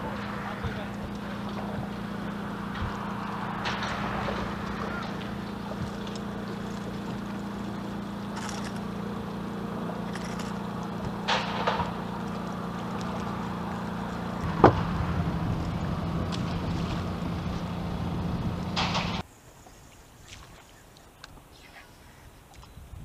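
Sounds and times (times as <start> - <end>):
electric motor humming: 0.0 - 19.2.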